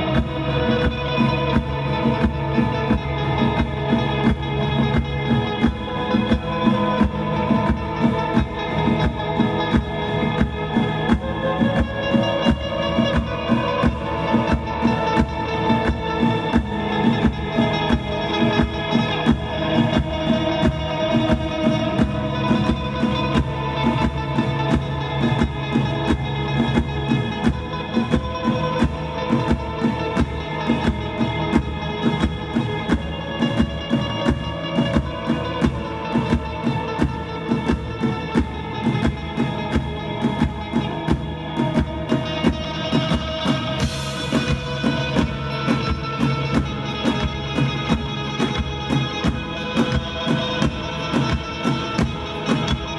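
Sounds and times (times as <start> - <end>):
drum kit beat: 0.0 - 52.9
live band playing: 0.0 - 52.9.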